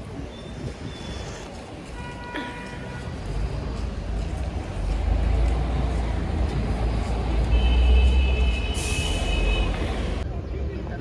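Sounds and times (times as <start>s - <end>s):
road vehicles rumbling past: 0.0s - 11.0s.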